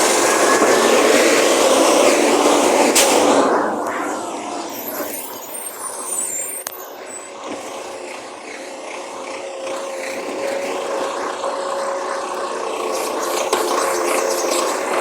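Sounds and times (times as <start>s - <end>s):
garbage truck mechanical whine: 0.0s - 15.0s.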